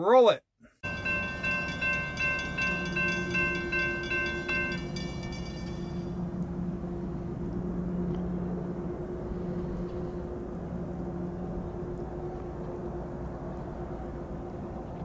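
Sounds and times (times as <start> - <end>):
diesel locomotive engine droning: 0.8 - 15.0
train rumbling: 0.8 - 15.0.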